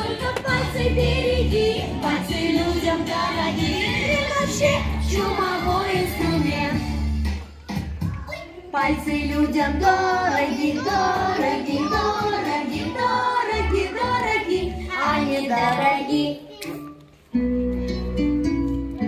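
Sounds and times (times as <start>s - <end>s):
children singing: 0.0s - 7.4s, 8.3s - 17.0s.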